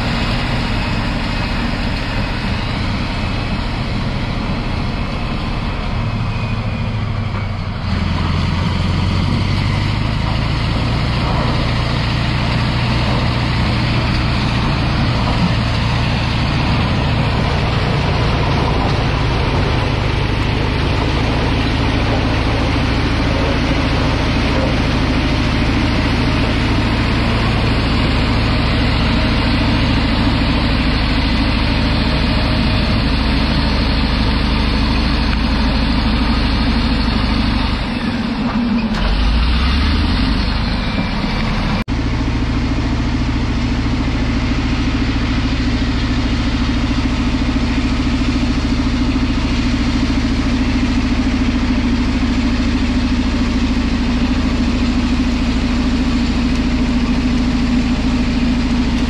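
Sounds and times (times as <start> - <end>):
bulldozer diesel engine drone: 0.0 - 59.0.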